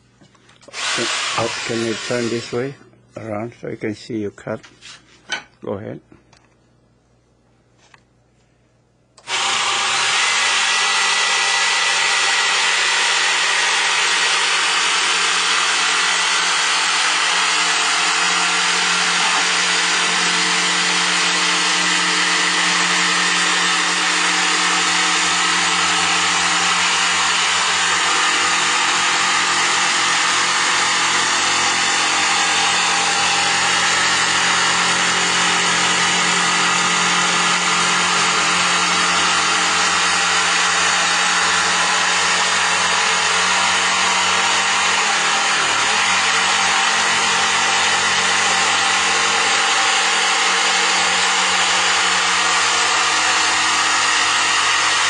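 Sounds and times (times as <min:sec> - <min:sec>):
electric jigsaw cutting wood: 0:00.7 - 0:02.7, 0:09.2 - 0:55.0.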